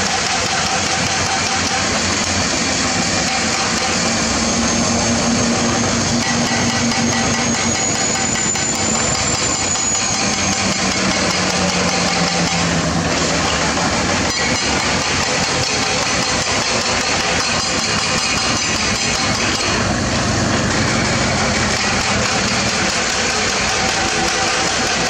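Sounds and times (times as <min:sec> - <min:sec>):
truck diesel engine running: 0:00.0 - 0:25.0.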